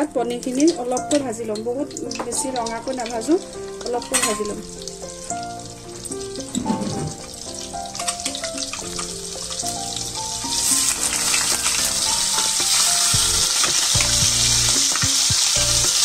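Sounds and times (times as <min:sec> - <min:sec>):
food sizzling in oil: 0:00.0 - 0:16.0
soft background music: 0:00.0 - 0:16.0.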